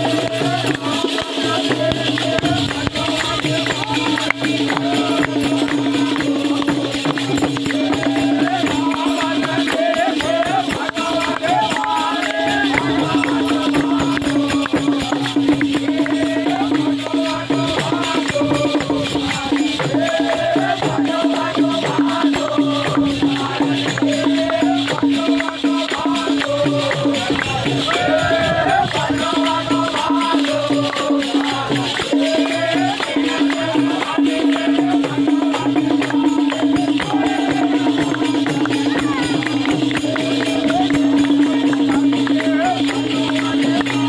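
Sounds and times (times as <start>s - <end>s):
barrel drums beaten with sticks: 0.0s - 44.0s
fast jingling rattle: 0.0s - 44.0s
voices singing: 0.0s - 44.0s.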